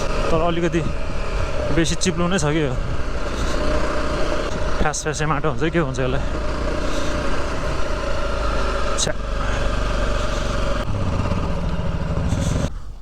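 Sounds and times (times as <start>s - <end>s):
off-road motorcycle engine: 0.0s - 13.0s.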